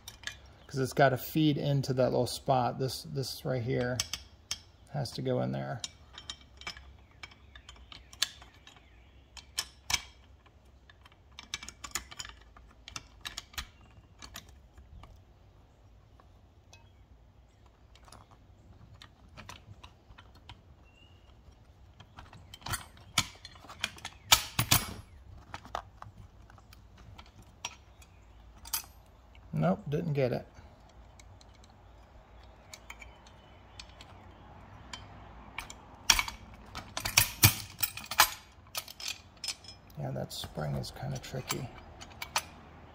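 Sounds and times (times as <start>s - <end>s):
metal parts clicking and clinking: 0.0s - 42.9s.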